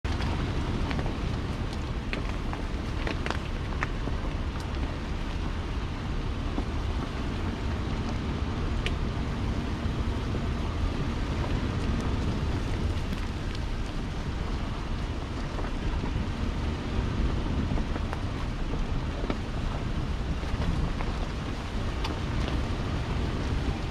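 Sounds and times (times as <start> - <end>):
vehicle engine and tyres rumbling: 0.0 - 23.9
wind buffeting microphone: 0.0 - 23.9.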